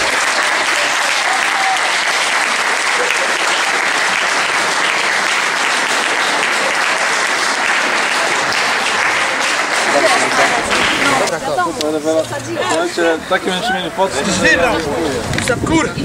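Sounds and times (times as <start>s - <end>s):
crowd applauding: 0.0s - 13.6s.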